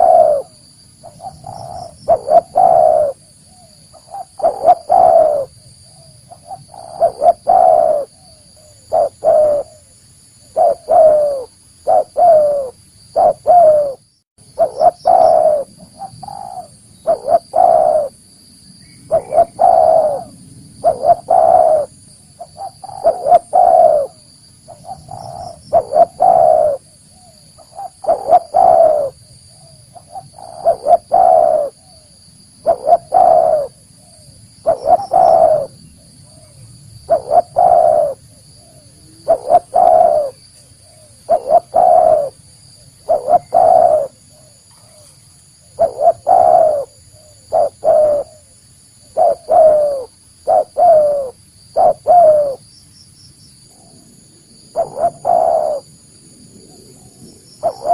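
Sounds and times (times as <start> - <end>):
dove cooing: 0.0 - 18.2, 19.1 - 42.4, 43.0 - 52.6, 53.7 - 56.0, 56.6 - 57.9.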